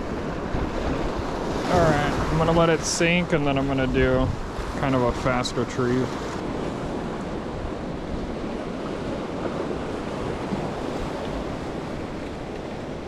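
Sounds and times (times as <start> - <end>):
wind buffeting microphone: 0.0 - 5.4, 6.1 - 13.0
ocean surf washing: 0.0 - 13.0.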